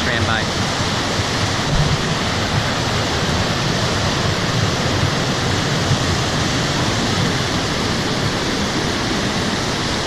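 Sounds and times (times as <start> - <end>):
waterfall rushing over rocks: 0.0 - 10.0.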